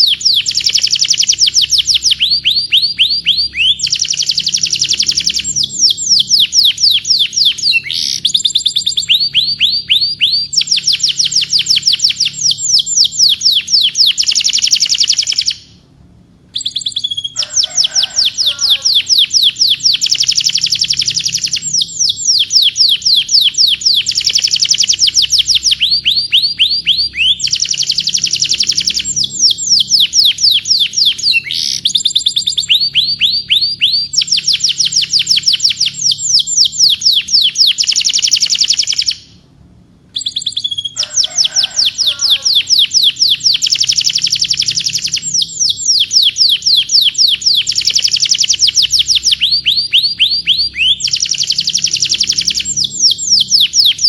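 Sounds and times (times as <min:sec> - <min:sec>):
canary singing trills: 0:00.0 - 0:15.8, 0:16.5 - 0:39.4, 0:40.1 - 0:54.0.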